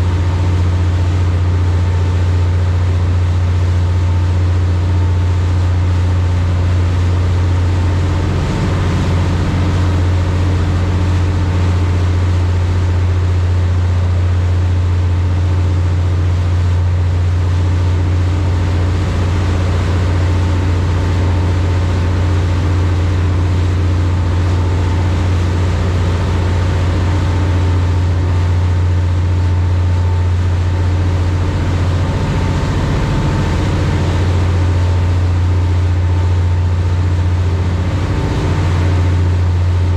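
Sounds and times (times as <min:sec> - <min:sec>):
boat engines droning: 0:00.0 - 0:39.9.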